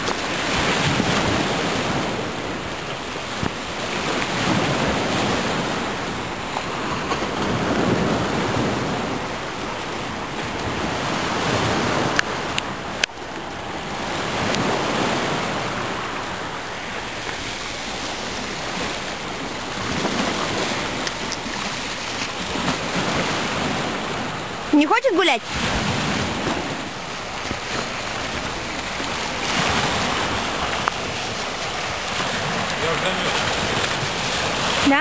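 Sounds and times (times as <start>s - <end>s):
sea washing on shingle: 0.0s - 12.8s, 13.7s - 35.0s
wind buffeting microphone: 0.0s - 34.9s.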